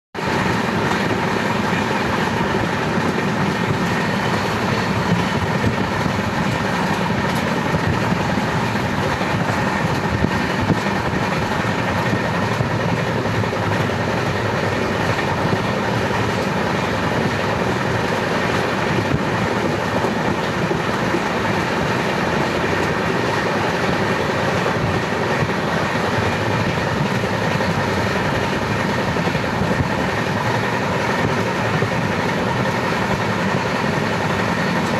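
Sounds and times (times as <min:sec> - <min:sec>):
train wheels rumbling on rails: 0:00.2 - 0:34.9.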